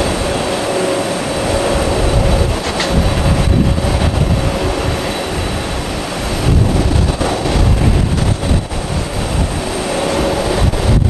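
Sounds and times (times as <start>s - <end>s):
jet engine whine: 0.0s - 11.0s
jet engines rumbling: 0.0s - 11.0s.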